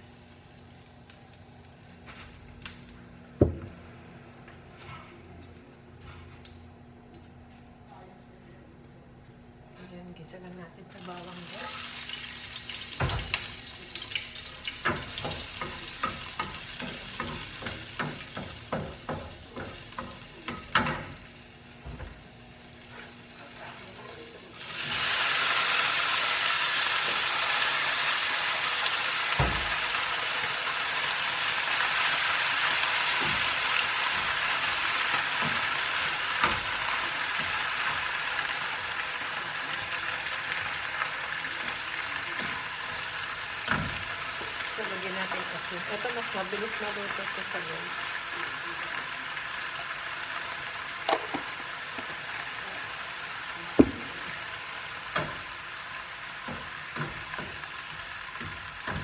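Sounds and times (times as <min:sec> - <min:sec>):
spinach sizzling in hot pan: 0:00.0 - 0:02.7, 0:10.9 - 0:59.0
garlic crackling in hot oil: 0:00.0 - 0:03.0, 0:10.9 - 0:59.0.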